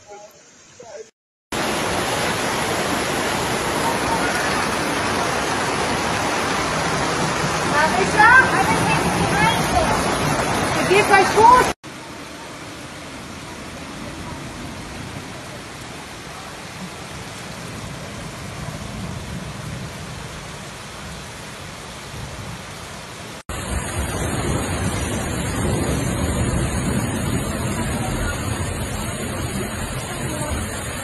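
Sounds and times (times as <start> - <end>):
heavy rain: 1.5 - 31.0
rushing floodwater: 1.5 - 31.0.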